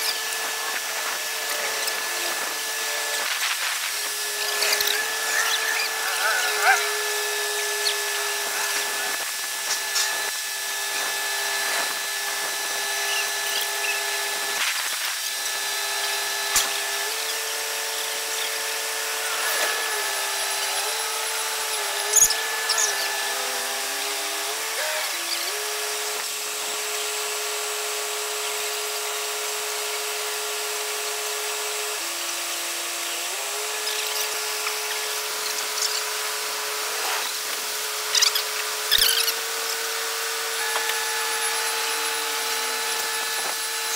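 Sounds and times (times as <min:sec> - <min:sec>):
construction machinery whine: 0:00.0 - 0:43.9.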